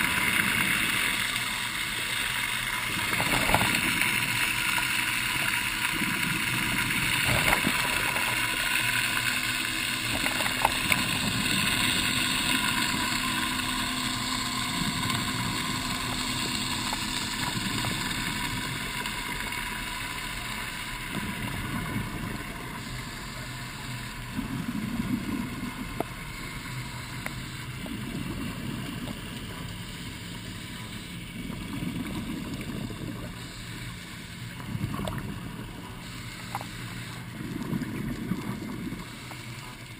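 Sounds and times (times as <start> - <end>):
scuba regulator bubbles: 0.0 - 39.9
underwater mechanical drone: 0.0 - 39.9.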